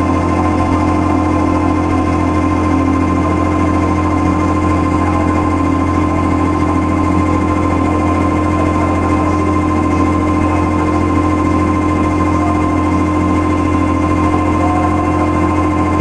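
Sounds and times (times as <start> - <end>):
electronic drone music: 0.0 - 16.0.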